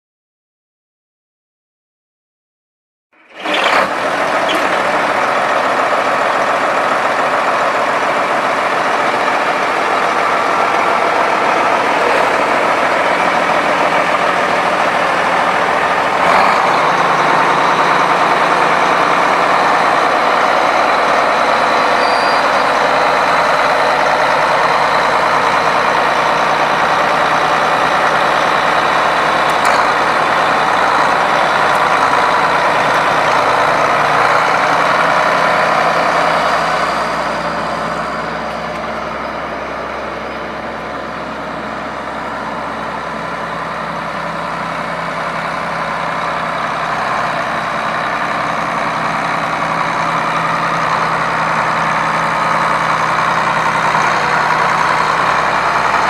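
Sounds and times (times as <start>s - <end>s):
tractor diesel engine running: 3.2s - 56.0s.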